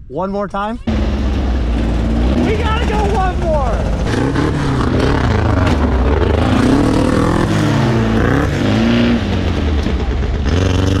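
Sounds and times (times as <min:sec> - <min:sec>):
sand rail engine revving: 0:00.9 - 0:11.0.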